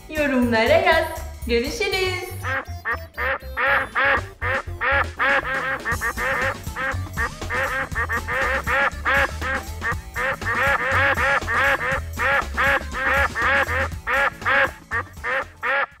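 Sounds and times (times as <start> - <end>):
background music with bass: 0.0 - 16.0
duck quacking: 2.3 - 16.0.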